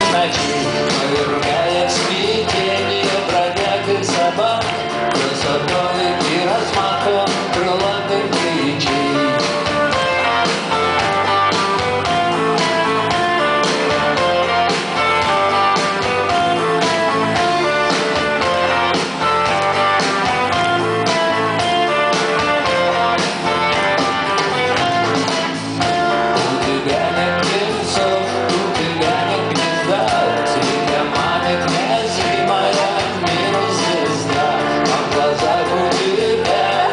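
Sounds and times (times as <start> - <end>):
live rock band playing: 0.0 - 36.9
steady drum beat: 0.0 - 36.9.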